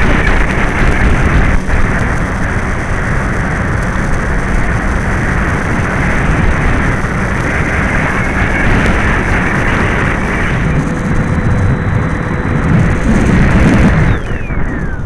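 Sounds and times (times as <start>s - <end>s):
electric motor and propeller: 0.0s - 15.0s
wind rushing over microphone: 0.0s - 15.0s.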